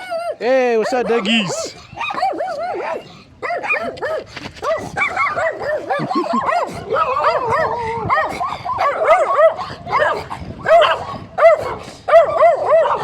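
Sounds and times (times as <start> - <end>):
dogs whining and yipping: 0.0 - 13.0.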